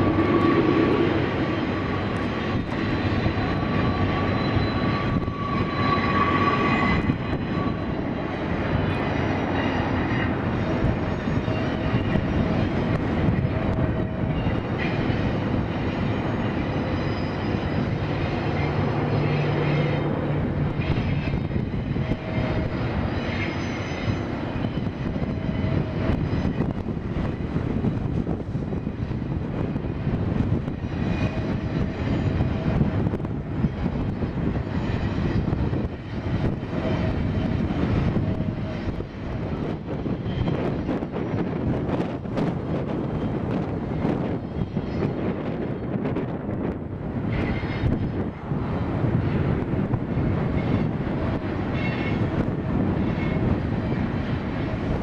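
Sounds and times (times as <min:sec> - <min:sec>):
diesel locomotive engines rumbling: 0:00.0 - 0:55.0
train wheels on rails: 0:00.0 - 0:55.0.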